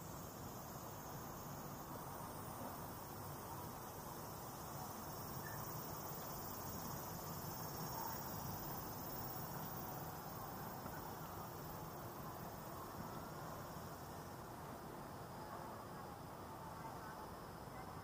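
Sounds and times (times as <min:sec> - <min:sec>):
cicadas buzzing: 0:00.0 - 0:18.0
low background noise: 0:00.0 - 0:18.0.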